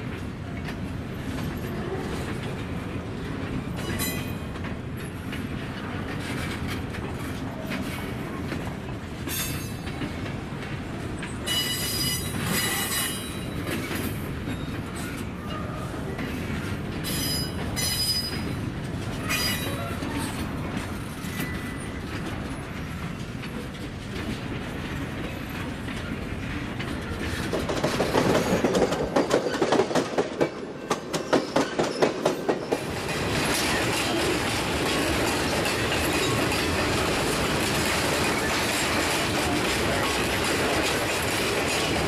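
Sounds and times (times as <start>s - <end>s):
freight train rolling past: 0.0s - 42.0s
wheels clacking over rail joints: 0.0s - 42.0s.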